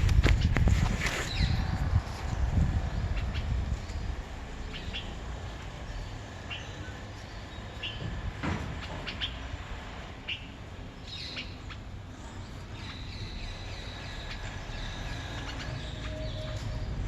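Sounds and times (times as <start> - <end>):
birds chirping: 0.0 - 17.0
low outdoor rumble: 0.0 - 17.0.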